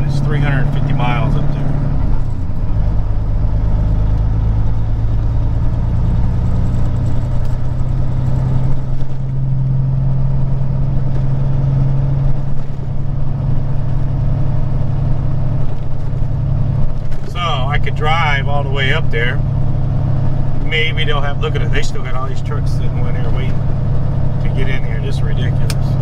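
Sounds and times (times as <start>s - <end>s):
truck diesel engine drone: 0.0s - 26.0s.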